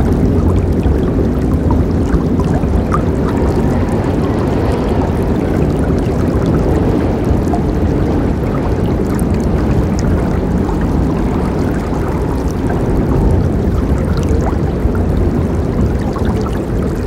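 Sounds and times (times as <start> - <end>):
river rushing: 0.5 - 17.0.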